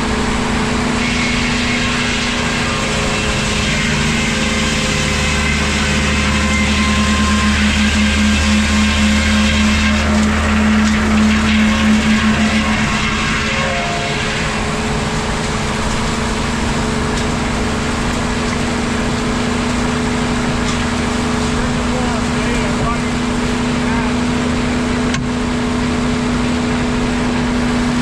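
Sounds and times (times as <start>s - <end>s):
sawmill engine drone: 0.0s - 28.0s.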